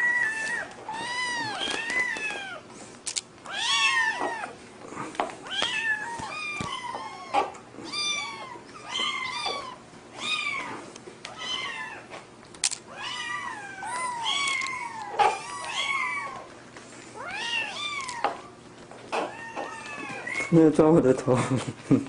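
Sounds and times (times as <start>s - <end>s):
kittens meowing: 0.0s - 2.6s, 3.4s - 4.6s, 5.4s - 12.1s, 12.9s - 16.5s, 17.2s - 21.4s.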